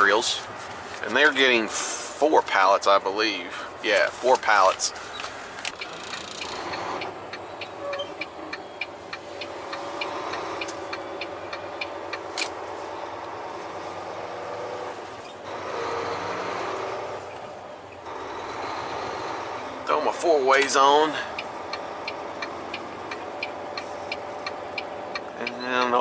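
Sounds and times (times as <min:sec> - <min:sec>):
truck engine running: 0:00.0 - 0:26.0
turn signal ticking: 0:05.1 - 0:26.0.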